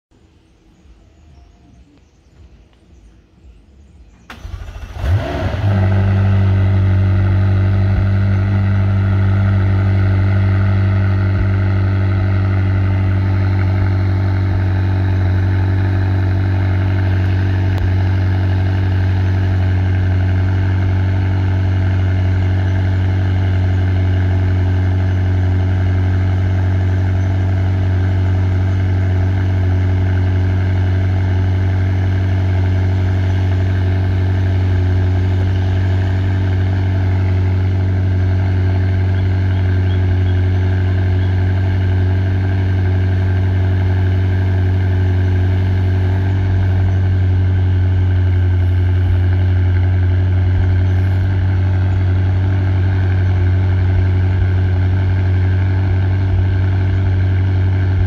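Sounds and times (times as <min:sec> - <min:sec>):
car engine starting and idling: 0:03.4 - 0:58.0.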